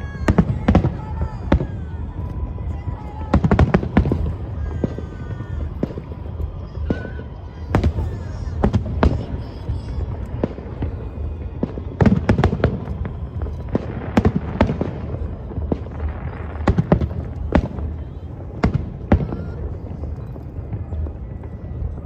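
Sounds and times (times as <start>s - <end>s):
fireworks bangs: 0.0s - 22.0s
low rumble of fireworks: 0.0s - 22.0s.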